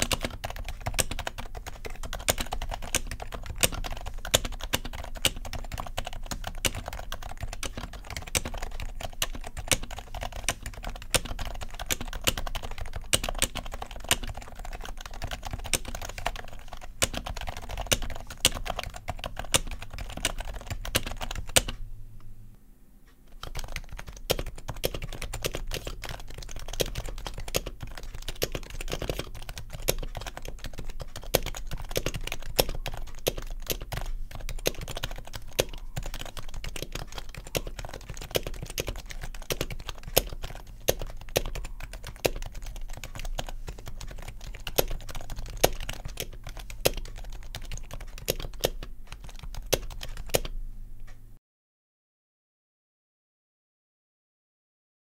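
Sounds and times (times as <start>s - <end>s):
muted keyboard keystrokes: 0.0s - 21.8s, 23.3s - 51.2s.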